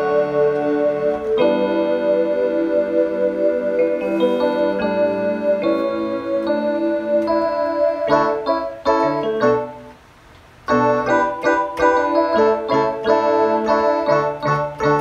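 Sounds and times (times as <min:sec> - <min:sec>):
electronic keyboard playing: 0:00.0 - 0:10.0, 0:10.7 - 0:15.0.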